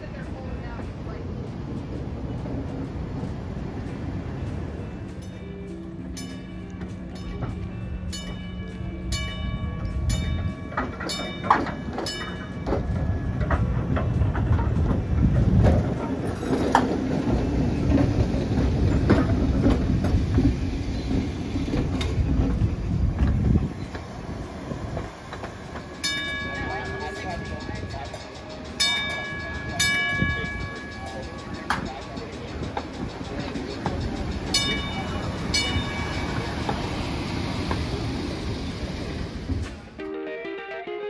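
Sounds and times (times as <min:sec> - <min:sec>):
streetcar wheels clacking: 0:00.0 - 0:40.2
streetcar rolling rumble: 0:00.0 - 0:40.5.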